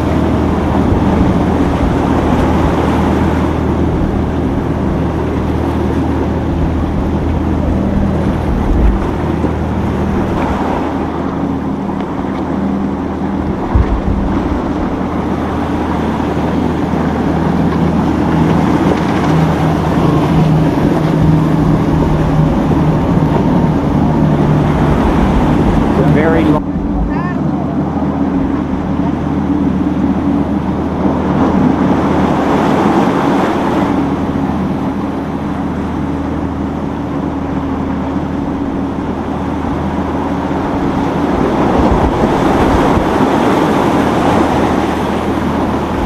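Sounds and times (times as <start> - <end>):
motorboat engines humming: 0.0 - 46.0
rushing wind and water: 0.0 - 46.0
wind buffeting microphone: 0.0 - 46.0.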